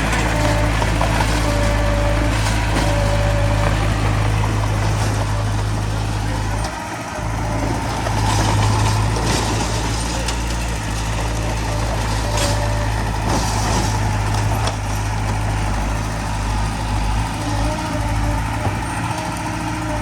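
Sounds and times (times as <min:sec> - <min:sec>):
diesel machinery engine hum: 0:00.0 - 0:20.0.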